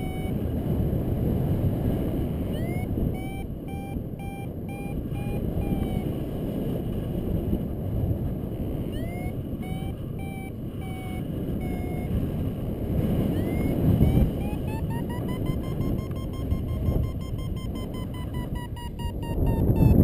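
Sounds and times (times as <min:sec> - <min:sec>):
variometer beeping: 0:00.0 - 0:00.7, 0:02.2 - 0:06.4, 0:08.7 - 0:20.0
wind rush: 0:00.0 - 0:20.0.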